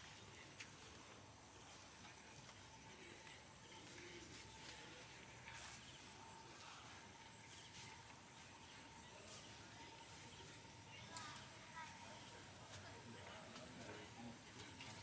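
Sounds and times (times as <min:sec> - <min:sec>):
thin steady tone: 0:00.0 - 0:15.0.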